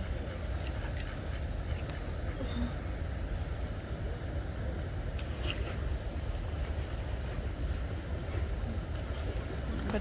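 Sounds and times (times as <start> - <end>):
steady rushing noise: 0.0 - 10.0
wind rumbling on microphone: 0.0 - 10.0.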